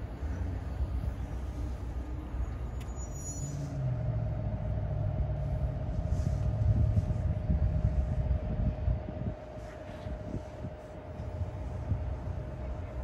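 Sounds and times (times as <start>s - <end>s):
train engine rumble: 0.0s - 13.0s.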